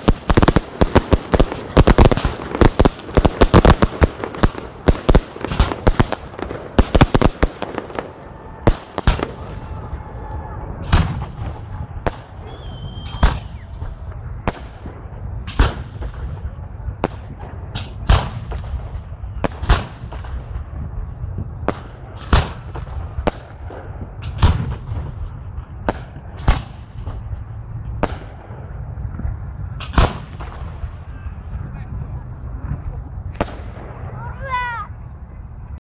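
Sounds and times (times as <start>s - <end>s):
fireworks bursting with bangs: 0.0s - 31.2s, 32.6s - 34.5s
low rumble: 0.0s - 35.8s.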